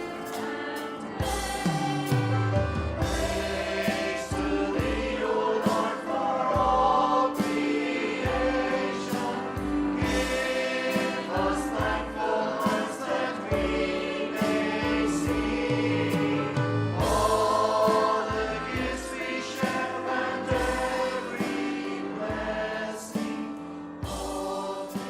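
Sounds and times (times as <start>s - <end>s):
group singing a hymn: 0.0s - 25.0s
praise band with steady beat: 0.0s - 25.0s.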